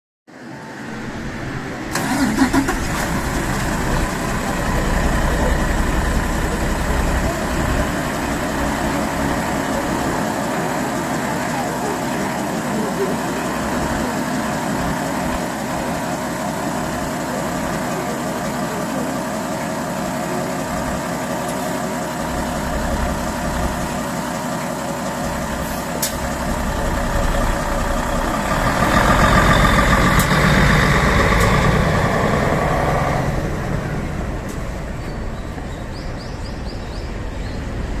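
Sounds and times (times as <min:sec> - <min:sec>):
bus diesel engine clattering: 0:00.8 - 0:38.0.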